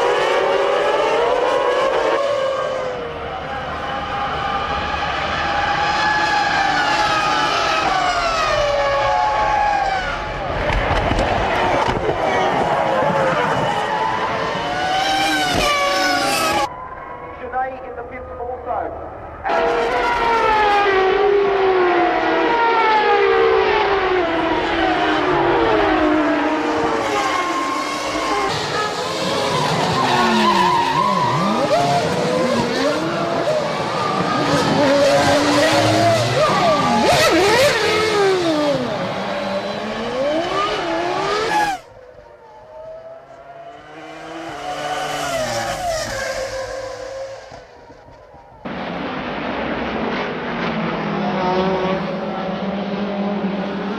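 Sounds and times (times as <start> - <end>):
racing car engines at high revs: 0.0 - 16.7, 19.4 - 53.9.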